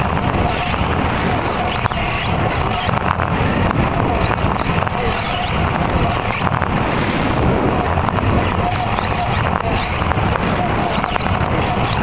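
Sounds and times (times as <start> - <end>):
chassis rumble and rattle: 0.0 - 12.0
electric motor whine: 0.0 - 12.0.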